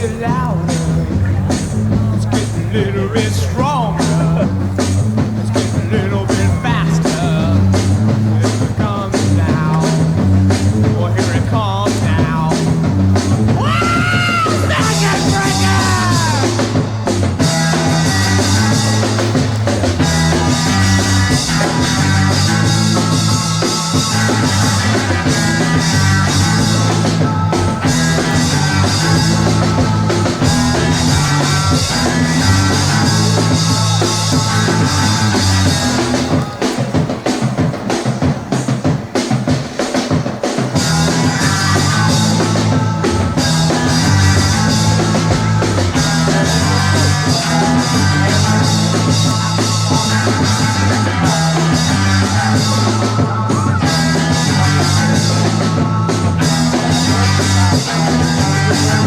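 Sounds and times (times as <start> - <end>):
instrumental rock band music: 0.0 - 59.0.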